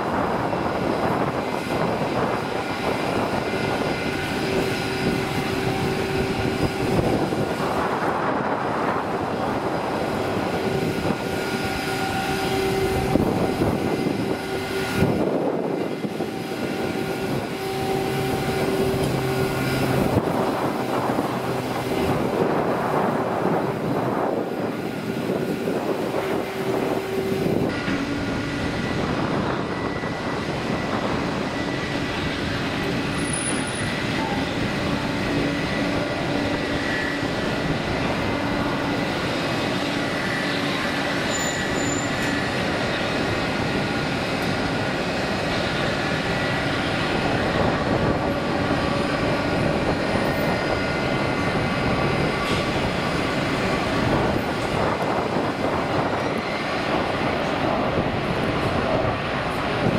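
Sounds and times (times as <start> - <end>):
jet engines whining: 0.0 - 59.9
turboprop engines droning: 0.0 - 59.9.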